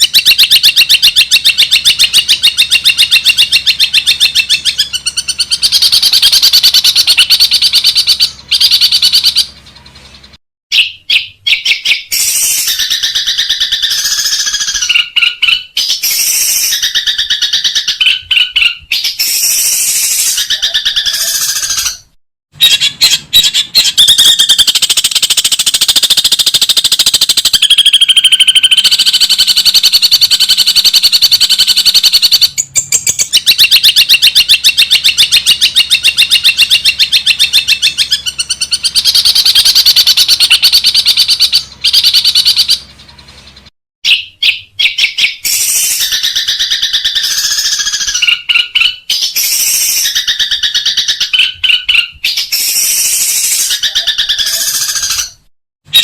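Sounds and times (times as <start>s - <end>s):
bird harsh chattering song: 0.0s - 56.0s.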